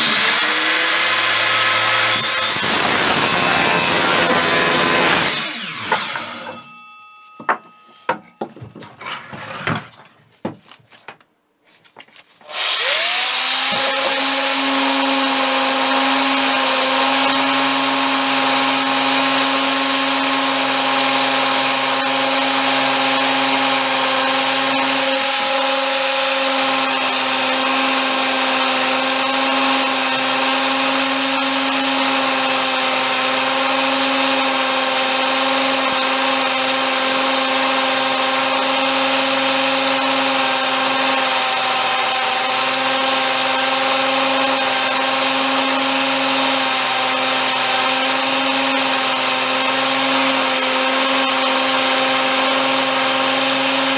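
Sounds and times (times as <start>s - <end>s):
power tool motor grinding: 0.0s - 6.8s, 12.4s - 53.9s.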